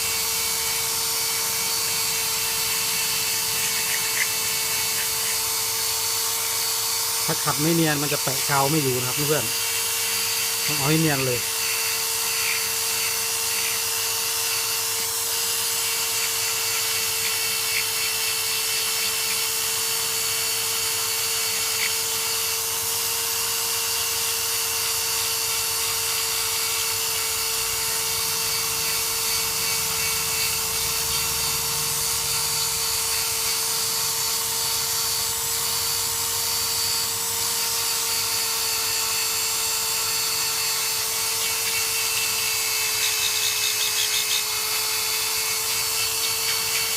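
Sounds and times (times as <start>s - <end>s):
rotary power tool whining: 0.0s - 46.9s.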